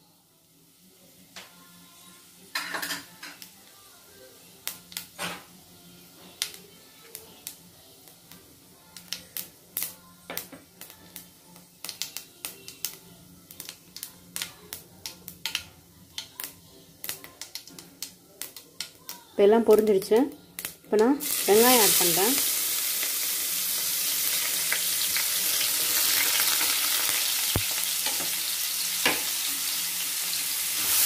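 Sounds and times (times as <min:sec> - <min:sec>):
spices popping in hot oil: 0:02.5 - 0:03.6, 0:04.6 - 0:05.5, 0:06.4 - 0:31.0.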